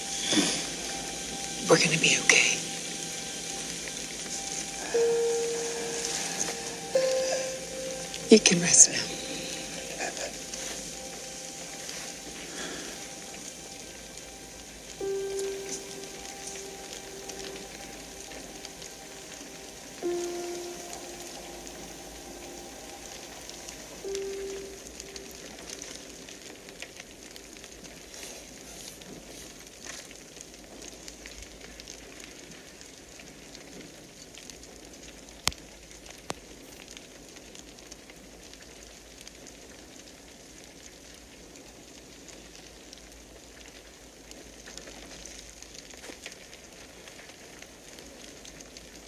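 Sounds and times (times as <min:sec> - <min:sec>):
fire crackling: 0:00.0 - 0:49.0.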